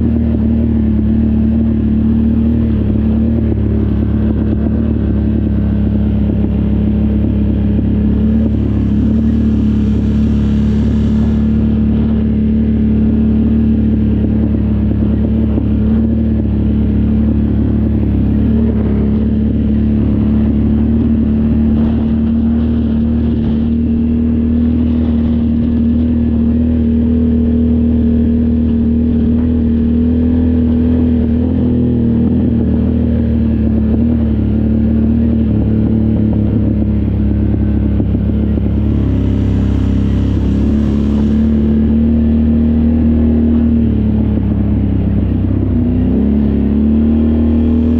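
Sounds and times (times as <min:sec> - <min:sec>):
vehicle engine running under load: 0:00.0 - 0:47.9.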